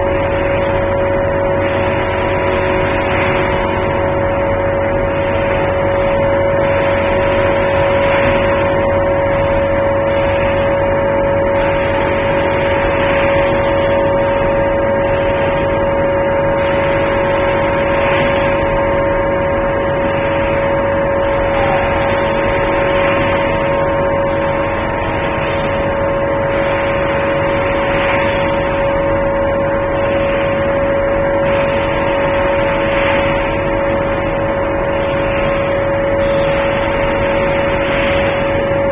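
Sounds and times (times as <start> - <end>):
machine hiss: 0.0 - 38.9
machine hum: 0.0 - 38.9.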